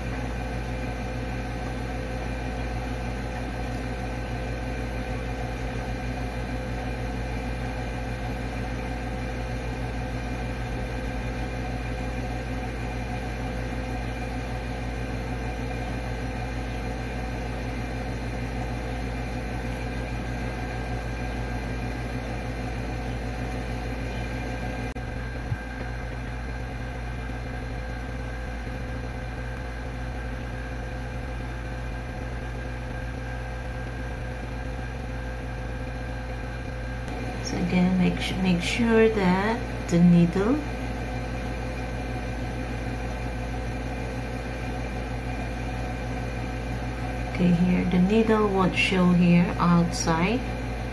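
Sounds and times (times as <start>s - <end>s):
machine humming: 0.0s - 50.9s.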